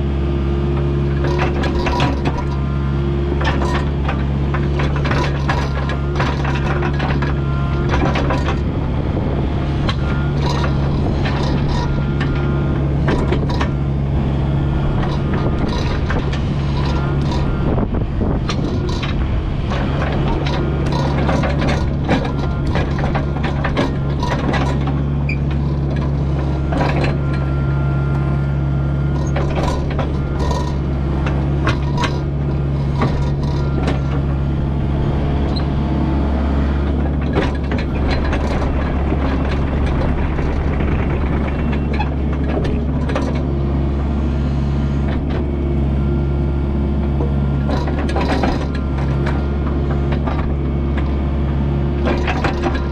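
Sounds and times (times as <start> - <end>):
excavator diesel engine running: 0.0 - 52.9
machine clanks and knocks: 0.7 - 2.7, 3.3 - 14.0, 14.7 - 27.6, 29.1 - 35.8, 36.6 - 45.6, 47.0 - 51.2, 52.0 - 52.9.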